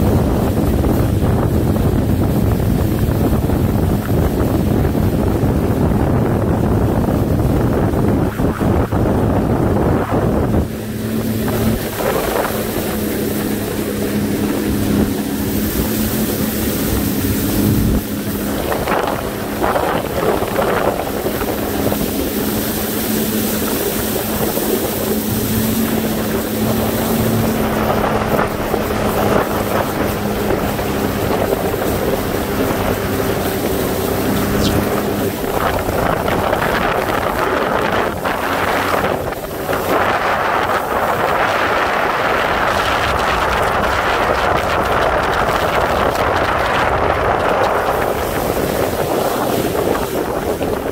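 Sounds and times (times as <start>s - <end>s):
jet ski engine droning: 0.0s - 50.9s
water rushing past hull: 0.0s - 50.9s
wind buffeting microphone: 0.0s - 50.9s.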